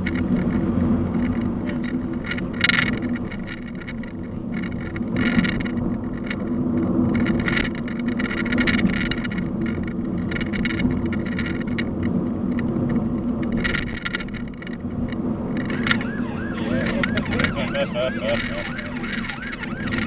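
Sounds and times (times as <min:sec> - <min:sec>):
traffic and road noise: 0:00.0 - 0:20.0.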